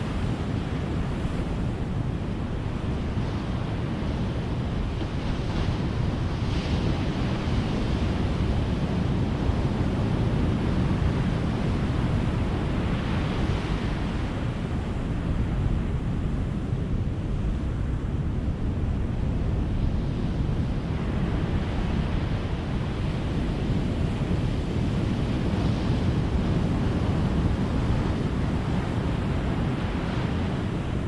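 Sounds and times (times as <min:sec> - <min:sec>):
waves breaking on a beach: 0:00.0 - 0:31.0.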